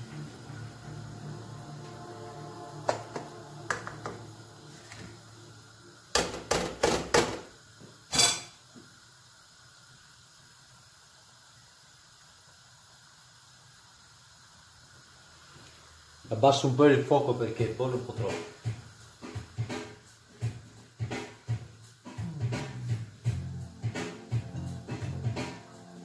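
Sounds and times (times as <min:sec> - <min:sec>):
faint boiling hiss: 0:00.0 - 0:26.0.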